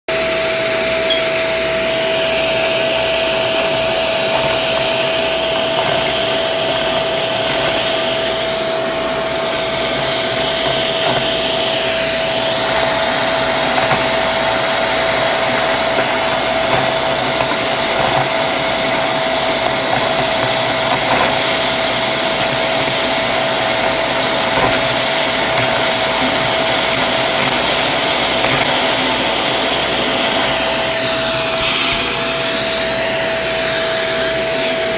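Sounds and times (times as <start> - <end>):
vacuum cleaner whining: 0.1 - 34.9
debris rattling up vacuum tool: 1.7 - 33.8.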